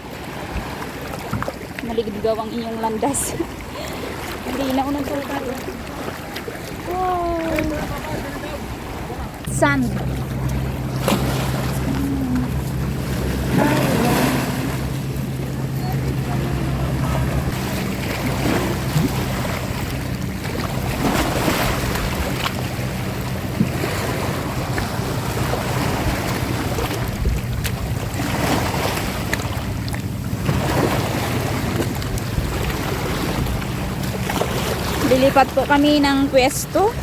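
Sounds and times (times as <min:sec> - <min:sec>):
boat engine idling hum: 0:00.0 - 0:37.0
sea waves washing: 0:00.0 - 0:37.0
wind buffeting microphone: 0:00.4 - 0:37.0.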